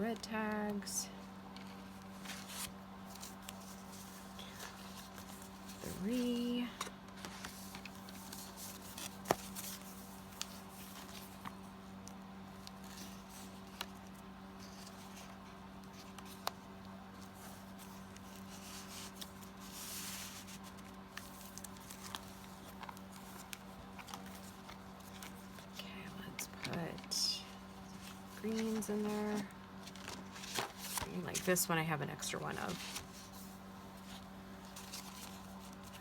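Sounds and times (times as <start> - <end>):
steady low hum: 0.0 - 36.0
paper rustling: 1.6 - 11.7, 12.5 - 36.0.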